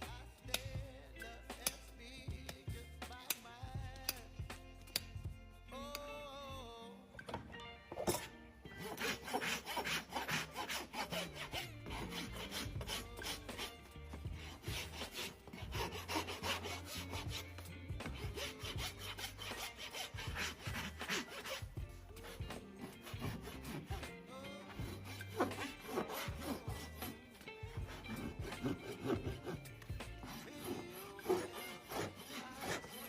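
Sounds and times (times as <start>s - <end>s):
rasp filing a hoof: 0.0s - 4.2s, 7.9s - 33.0s.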